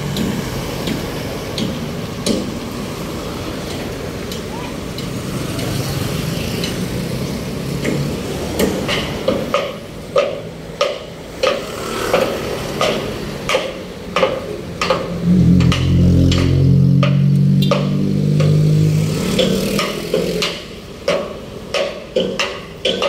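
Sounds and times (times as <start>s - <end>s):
vehicle engine: 0.0s - 10.0s, 11.2s - 21.7s
road traffic hum: 0.0s - 23.0s.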